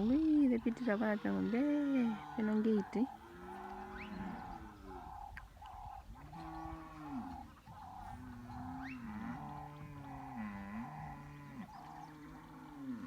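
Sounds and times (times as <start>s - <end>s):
cattle mooing: 0.0s - 5.2s, 6.2s - 13.0s.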